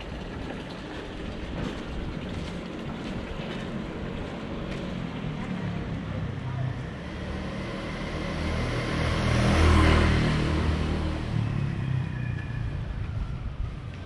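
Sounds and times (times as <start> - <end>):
road noise: 0.0 - 14.0
vehicle engine rumble: 0.0 - 14.0.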